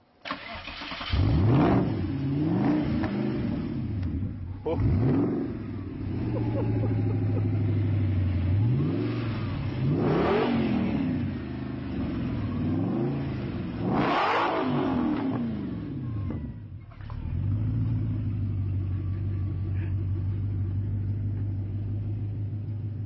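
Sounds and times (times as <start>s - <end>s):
car engine idling and revving: 0.3s - 23.0s.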